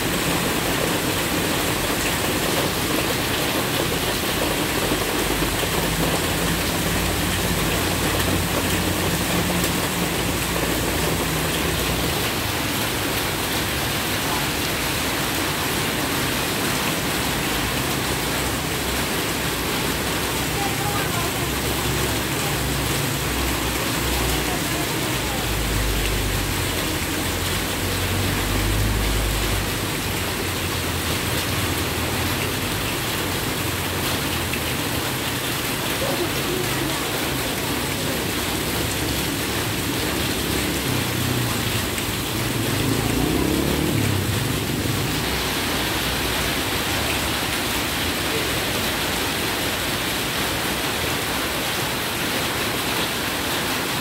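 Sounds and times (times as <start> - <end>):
heavy rain on flooded street: 0.0 - 54.0
motorcycles riding through water: 0.0 - 54.0.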